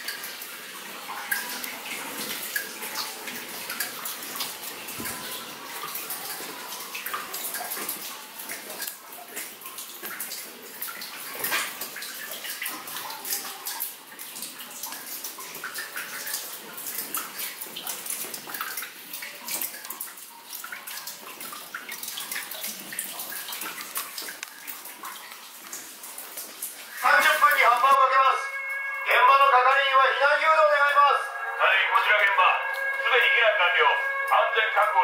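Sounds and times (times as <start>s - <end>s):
running water: 0.0s - 35.0s
water dripping: 0.0s - 35.0s.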